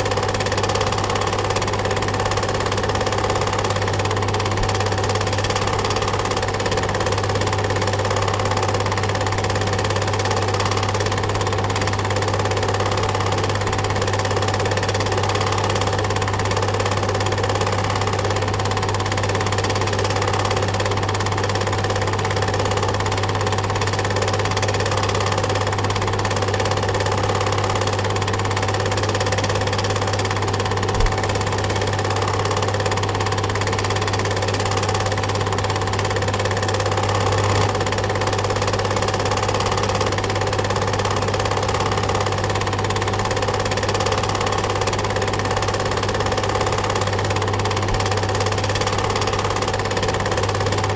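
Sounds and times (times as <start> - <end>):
film projector whirring: 0.0 - 50.9.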